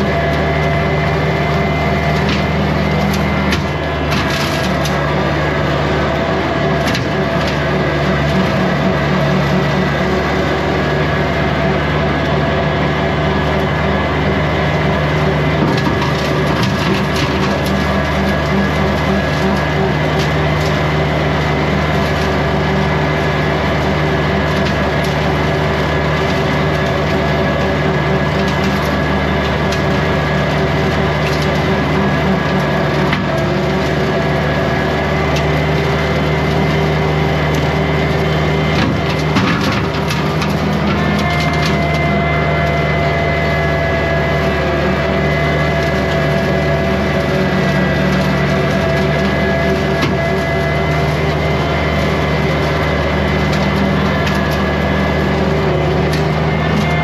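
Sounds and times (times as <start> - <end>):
brush cutter crushing wood: 0.0 - 57.0
drive whine: 0.0 - 57.0
tractor diesel engine running: 0.0 - 57.0.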